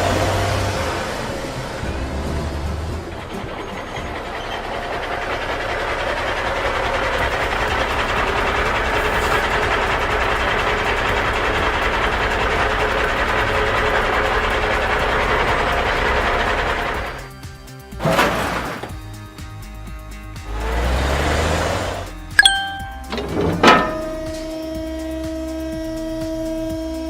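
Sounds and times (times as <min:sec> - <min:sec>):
vehicle running with rattle: 0:00.0 - 0:22.3, 0:23.0 - 0:27.0.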